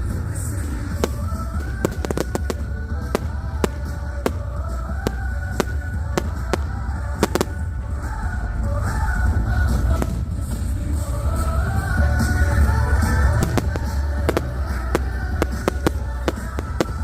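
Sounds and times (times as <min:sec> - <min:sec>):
fireworks cracking and banging: 0:00.0 - 0:17.0
music: 0:00.0 - 0:17.0.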